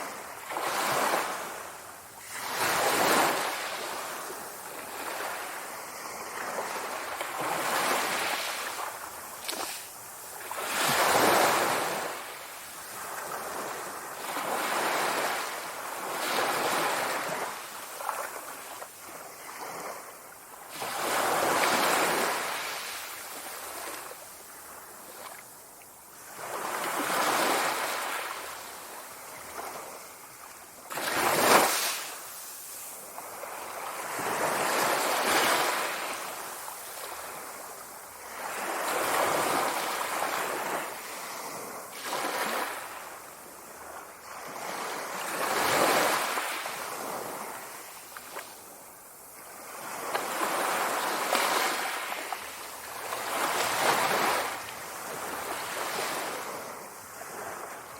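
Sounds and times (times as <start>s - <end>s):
sea waves washing on shore: 0.0s - 57.9s.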